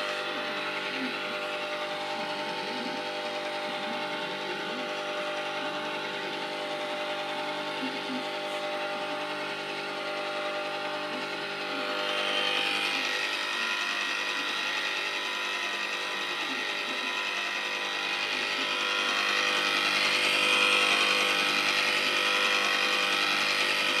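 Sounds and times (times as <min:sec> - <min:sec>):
ice cream maker motor humming: 0:00.0 - 0:24.0.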